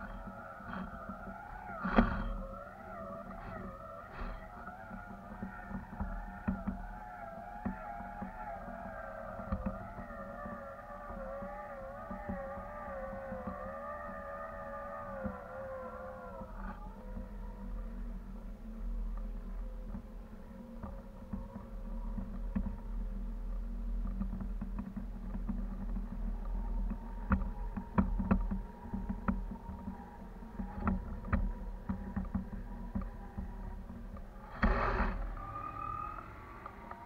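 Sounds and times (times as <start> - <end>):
wind rumbling: 0.0 - 18.8, 25.1 - 37.0.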